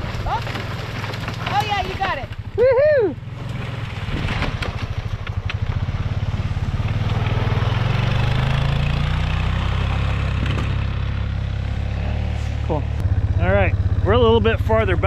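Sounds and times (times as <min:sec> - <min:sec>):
atv engine pulsing: 0:00.0 - 0:15.0
wind and tyre noise: 0:00.0 - 0:15.0.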